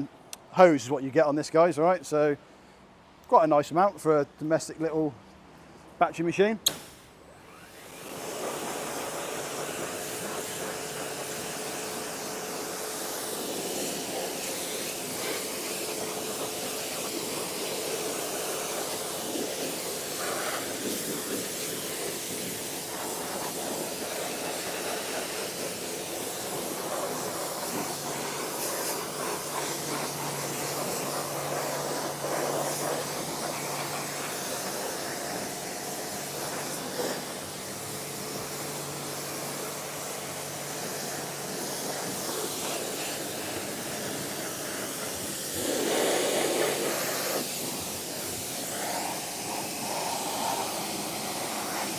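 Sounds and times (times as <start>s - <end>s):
pressure washer spraying water: 6.6s - 51.9s.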